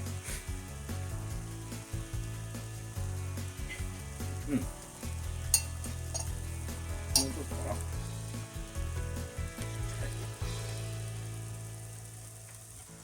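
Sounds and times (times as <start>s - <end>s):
steady low hum: 0.0s - 13.0s
vegetables sizzling in a frying pan: 0.0s - 13.0s.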